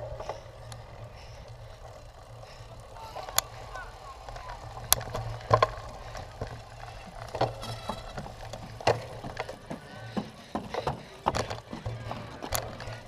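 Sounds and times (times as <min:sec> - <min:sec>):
bike rattling over rough ground: 0:00.0 - 0:13.0.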